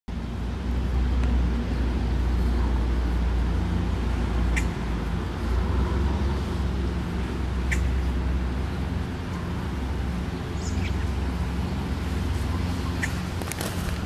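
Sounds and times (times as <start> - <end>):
low outdoor rumble: 0.1 - 14.0.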